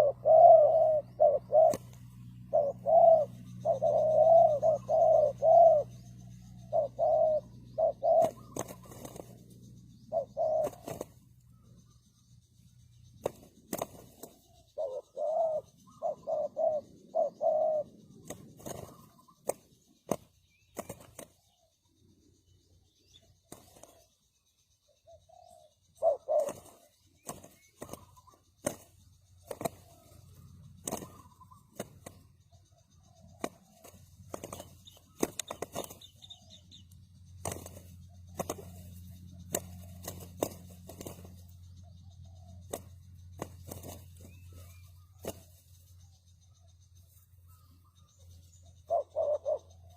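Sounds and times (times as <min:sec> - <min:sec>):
dove cooing: 0:00.0 - 0:12.5, 0:13.1 - 0:22.0, 0:24.8 - 0:46.9, 0:47.5 - 0:49.9.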